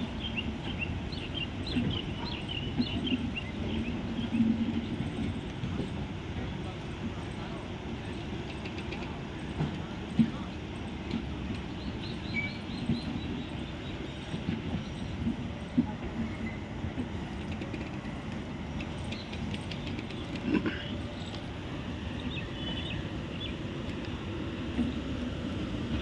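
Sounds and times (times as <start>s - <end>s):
train knocks and clanks: 0.0s - 26.0s
train wheels rumbling: 0.0s - 26.0s.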